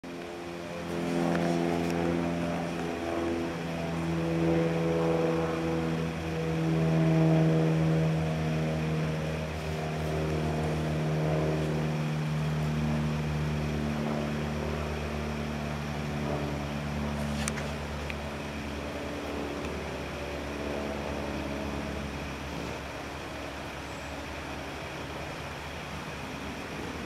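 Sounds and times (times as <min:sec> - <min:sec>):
motor engine droning: 0:00.0 - 0:27.0.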